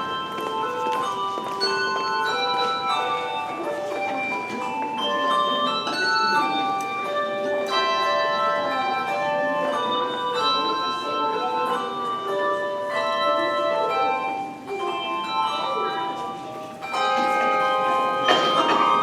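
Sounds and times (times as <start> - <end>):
handbell choir playing: 0.0 - 19.0.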